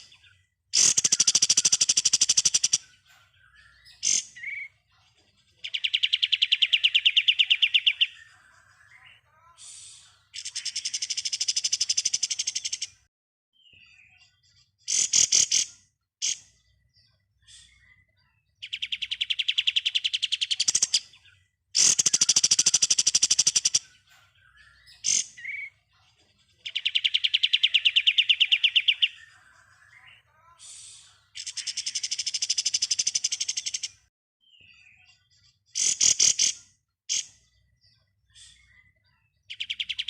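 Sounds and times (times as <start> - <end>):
bird chirps: 0.0 - 40.0.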